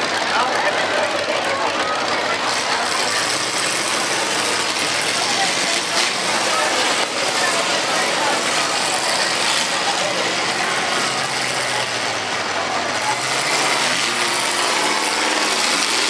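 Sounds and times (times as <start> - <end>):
car engine running rough: 0.0 - 16.0.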